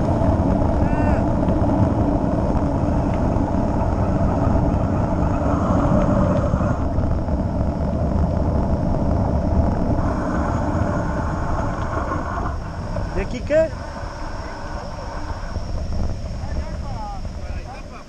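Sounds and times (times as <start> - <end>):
tyres rolling on asphalt: 0.0 - 18.0
wind buffeting microphone: 0.0 - 18.0.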